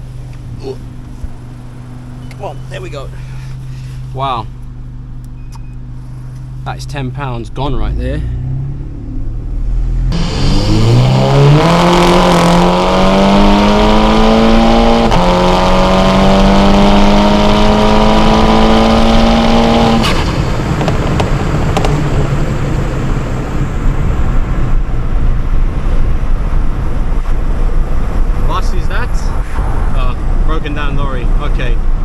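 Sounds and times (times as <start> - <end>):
car engine accelerating hard: 0.0 - 32.0
exhaust crack: 0.0 - 32.0.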